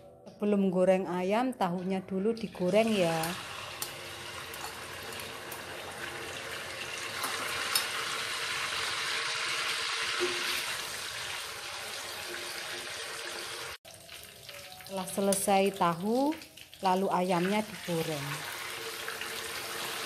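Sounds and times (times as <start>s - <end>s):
tofu sizzling in hot oil: 2.8s - 20.0s.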